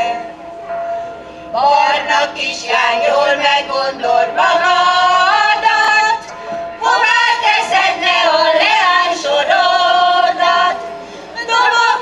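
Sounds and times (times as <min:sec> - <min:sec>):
women's choir singing: 0:00.0 - 0:00.3, 0:01.5 - 0:12.0.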